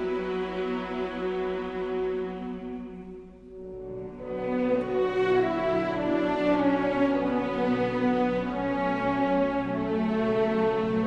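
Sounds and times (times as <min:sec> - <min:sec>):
music of long held notes: 0:00.0 - 0:11.0.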